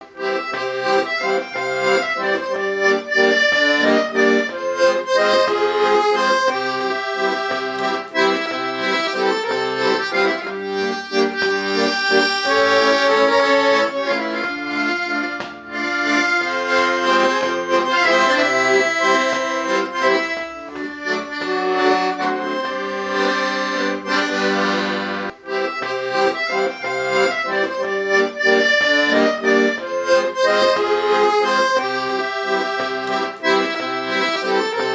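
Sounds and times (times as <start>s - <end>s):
accordion playing a tune: 0.0s - 34.9s.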